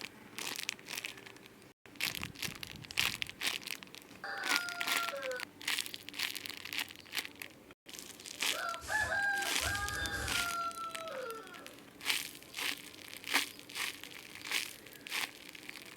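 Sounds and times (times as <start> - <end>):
plastic packaging crinkling: 0.0 - 15.9.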